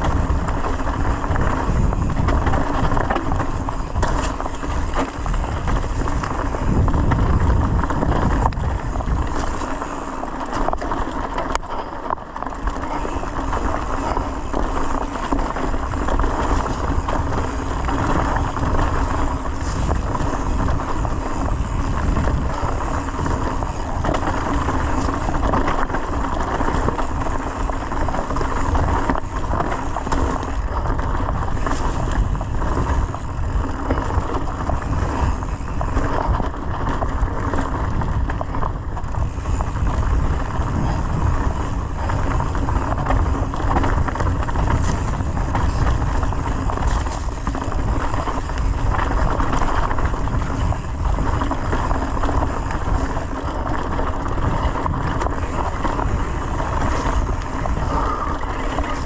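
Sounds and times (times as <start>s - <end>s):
bike knocks and rattles: 0.0s - 59.0s
tyre noise on dirt: 0.0s - 59.0s
wind rushing over microphone: 0.0s - 59.0s.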